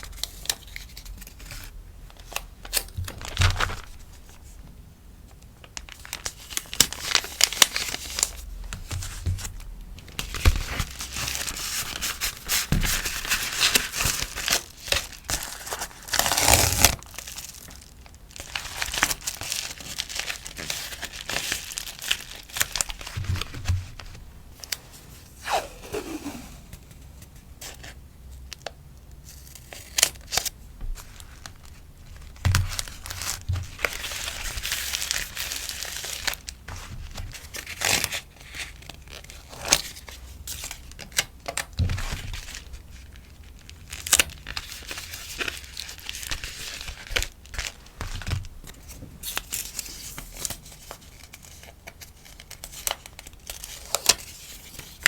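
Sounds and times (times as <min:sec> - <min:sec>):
plastic packaging crinkling: 0:00.1 - 0:04.2, 0:05.6 - 0:25.1, 0:26.7 - 0:55.0.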